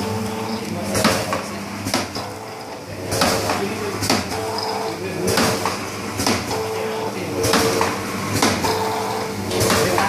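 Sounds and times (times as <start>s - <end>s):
packing machine clack: 0.0s - 6.6s, 7.3s - 10.0s
steady motor hum: 0.0s - 10.0s.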